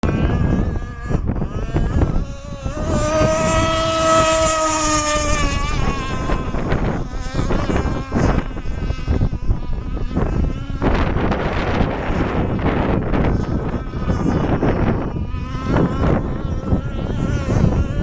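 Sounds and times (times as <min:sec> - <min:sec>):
model boat engine buzzing: 0:00.0 - 0:18.0
wind on microphone: 0:00.0 - 0:18.0.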